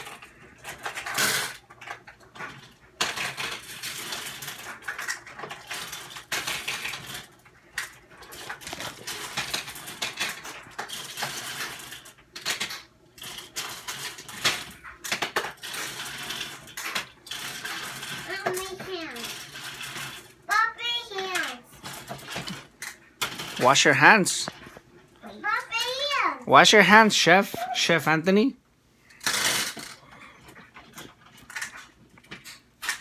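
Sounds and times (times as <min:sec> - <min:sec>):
plastic toy dishes clattering: 0:00.0 - 0:20.4, 0:21.2 - 0:24.7, 0:29.1 - 0:33.0.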